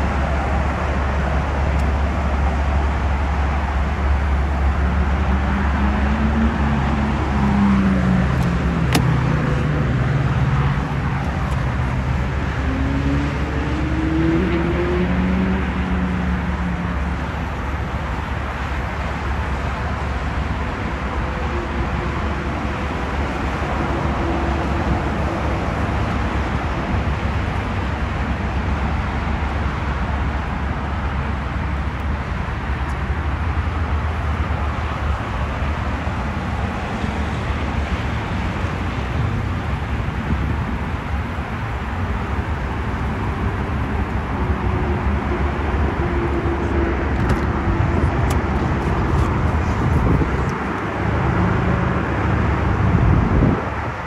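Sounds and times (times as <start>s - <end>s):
car low rumble: 0.0s - 54.0s
road noise hiss: 0.0s - 54.0s.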